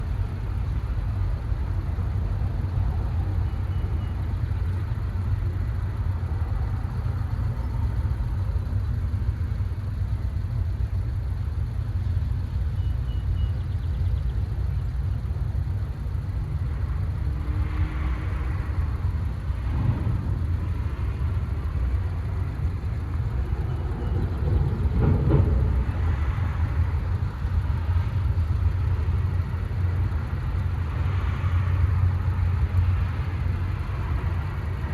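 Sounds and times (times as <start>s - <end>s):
low rumble of road traffic: 0.0s - 34.9s.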